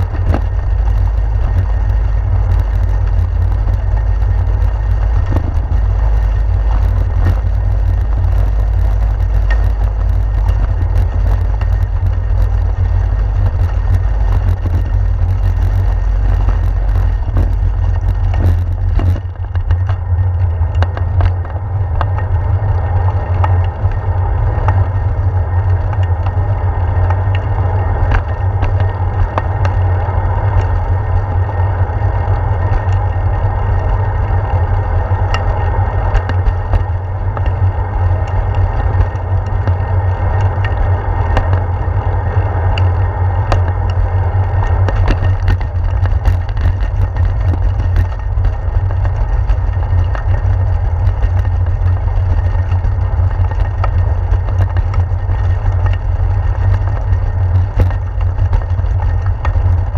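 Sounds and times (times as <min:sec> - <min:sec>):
bicycle rattling over bricks: 0:00.0 - 0:59.9
wind rumble on camera: 0:00.0 - 0:59.9.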